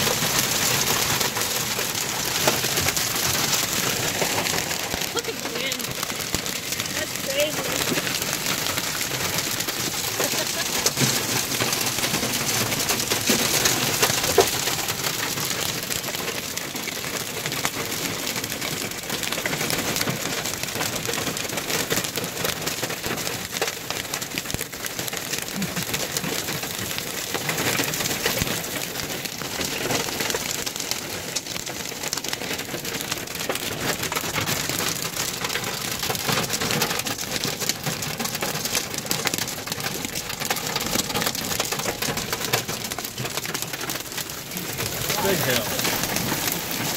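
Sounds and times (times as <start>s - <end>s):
heavy rain on car roof: 0.0s - 46.9s.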